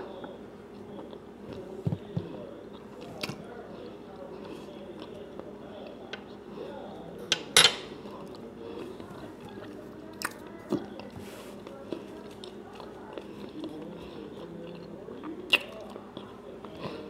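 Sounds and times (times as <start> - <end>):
person chewing food: 0.2 - 6.6, 8.0 - 17.0.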